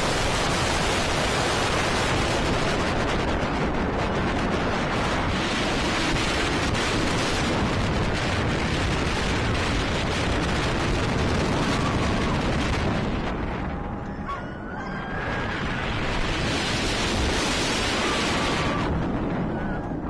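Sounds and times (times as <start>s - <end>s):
roller coaster roaring on track: 0.0s - 20.0s
wind rushing over microphone: 0.0s - 20.0s.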